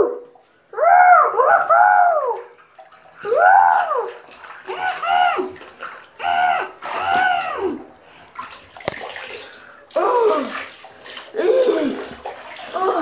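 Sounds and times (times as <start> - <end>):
water splashing in bathtub: 1.3 - 13.0.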